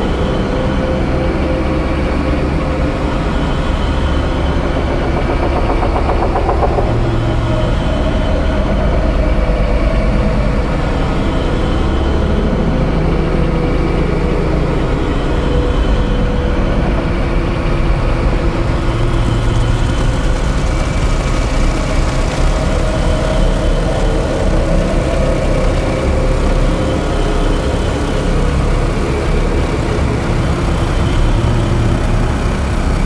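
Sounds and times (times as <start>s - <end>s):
drone and noise music: 0.0s - 33.0s.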